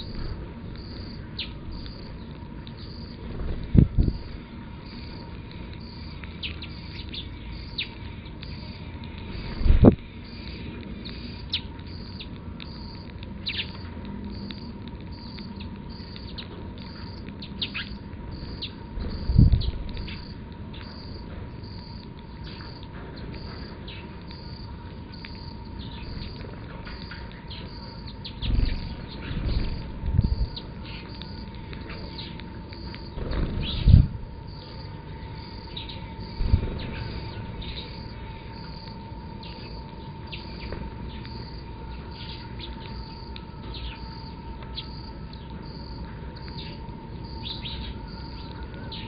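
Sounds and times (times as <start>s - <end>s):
faint hum: 0.0s - 49.0s
sparrows chirping: 0.0s - 49.0s.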